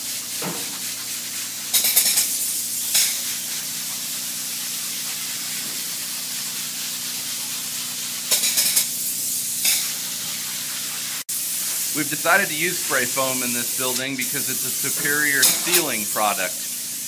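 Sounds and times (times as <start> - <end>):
spray foam gun hissing: 0.0 - 17.0.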